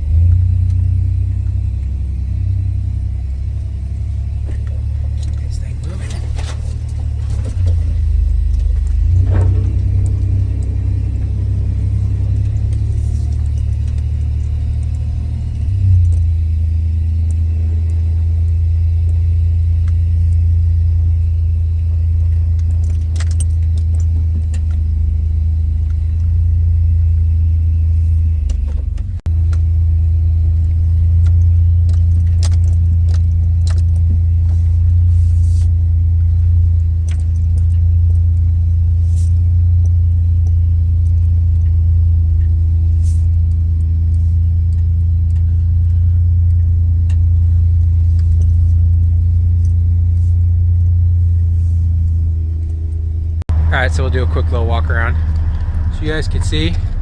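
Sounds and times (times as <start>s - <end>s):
pickup engine running at low revs: 0.0s - 57.0s.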